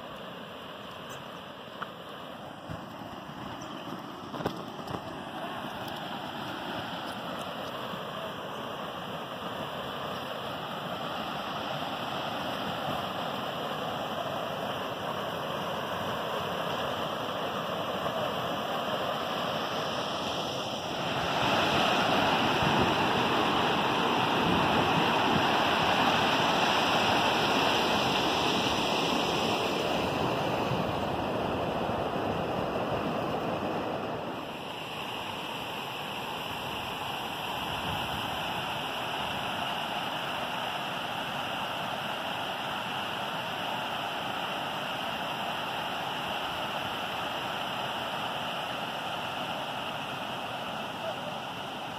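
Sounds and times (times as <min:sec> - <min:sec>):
river rushing over rapids: 0:00.0 - 0:51.9.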